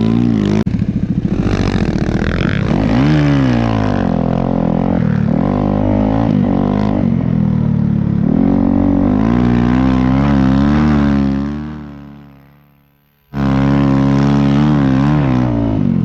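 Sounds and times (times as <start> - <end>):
snow bike engine running: 0.0 - 16.0.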